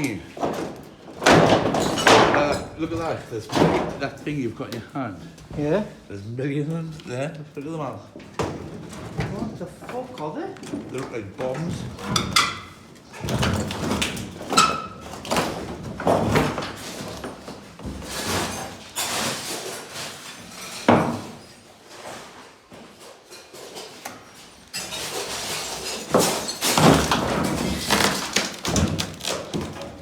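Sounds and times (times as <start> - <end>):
objects knocking and scraping: 0.0 - 5.8, 8.1 - 30.0.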